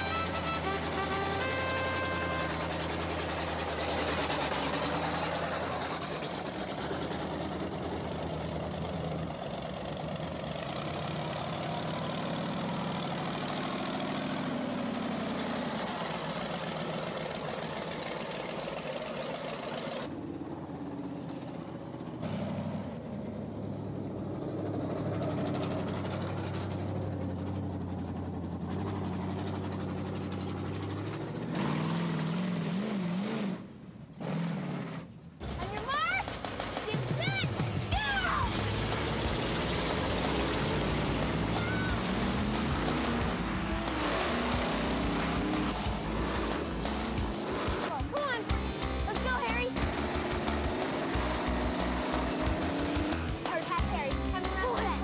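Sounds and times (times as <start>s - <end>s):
monster truck engines idling: 0.0s - 55.0s.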